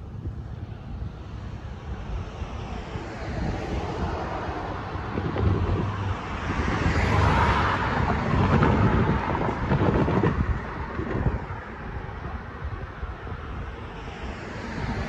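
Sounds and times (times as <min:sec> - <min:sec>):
road traffic rumbling past: 0:00.0 - 0:15.0
wind buffeting microphone: 0:00.0 - 0:15.0.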